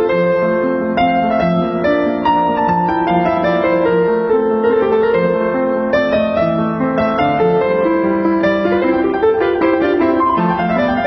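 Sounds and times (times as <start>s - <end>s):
keyboard playing a melody: 0.0s - 11.0s.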